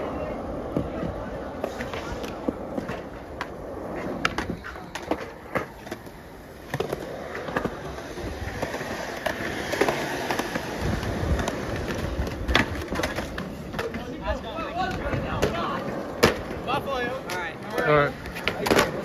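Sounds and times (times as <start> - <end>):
skateboard clacks: 0.0 - 19.0
skateboard wheels rolling on concrete: 0.0 - 19.0.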